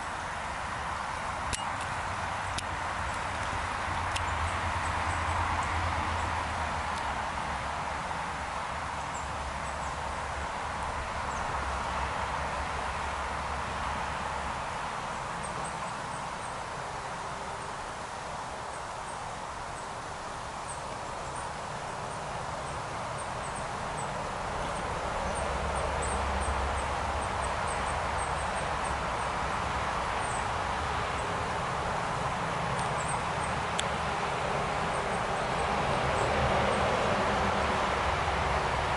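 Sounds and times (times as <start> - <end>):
stream running over gravel: 0.0 - 36.4.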